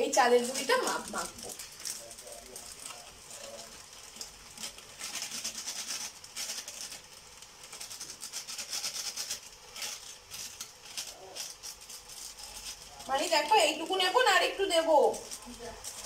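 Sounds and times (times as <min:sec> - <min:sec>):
plastic packet crinkling: 0:00.0 - 0:16.0
flour pouring into a steel bowl: 0:00.2 - 0:16.0.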